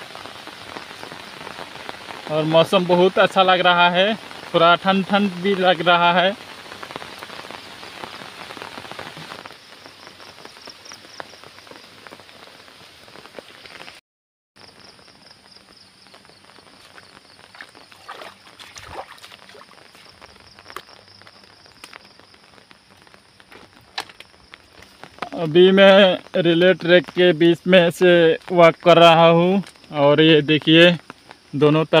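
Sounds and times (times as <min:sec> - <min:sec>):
rain falling: 0:00.0 - 0:14.0, 0:14.6 - 0:32.0.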